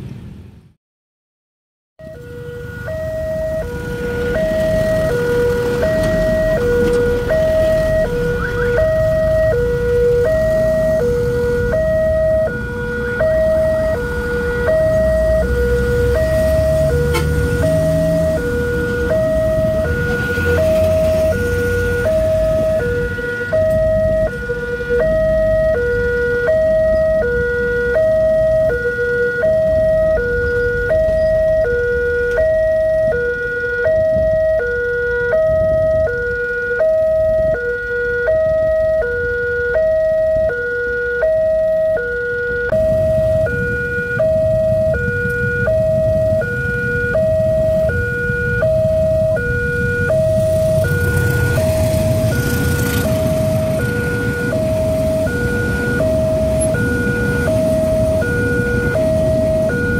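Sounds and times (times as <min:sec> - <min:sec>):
road traffic rumble: 0:00.0 - 0:00.8, 0:02.0 - 0:59.9
level crossing two-tone alarm: 0:02.0 - 0:59.9.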